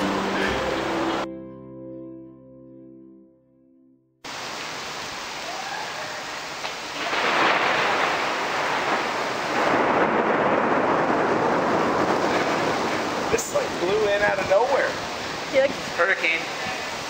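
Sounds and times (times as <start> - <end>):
heavy rain falling: 0.0 - 1.3, 4.3 - 17.0.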